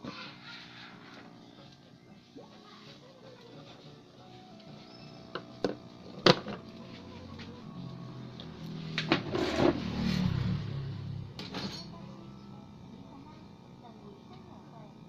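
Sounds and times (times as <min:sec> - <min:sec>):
faint television music and sound: 0:00.0 - 0:09.4, 0:11.0 - 0:15.0.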